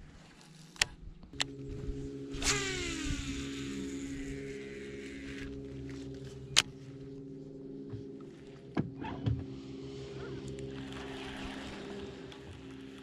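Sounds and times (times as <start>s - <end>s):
fishing reel spool whirring: 0.0s - 7.7s, 9.4s - 13.0s
steady low hum: 0.0s - 13.0s.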